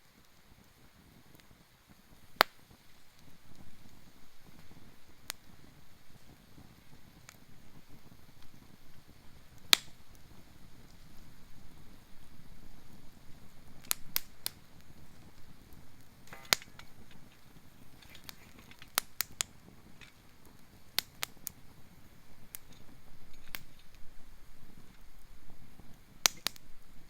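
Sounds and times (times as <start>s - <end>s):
campfire crackling and popping: 0.0s - 27.0s
low fire hiss: 0.0s - 27.0s.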